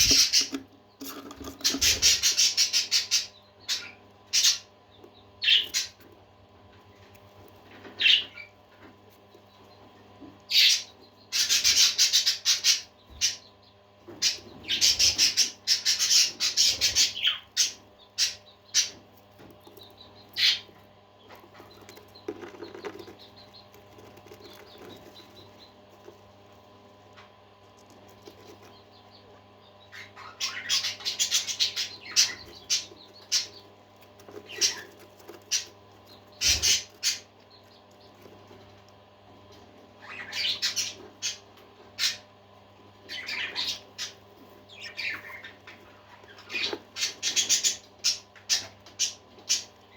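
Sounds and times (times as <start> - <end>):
faint steady hum: 0.0 - 49.9
parakeets chirping and chattering: 0.0 - 49.9.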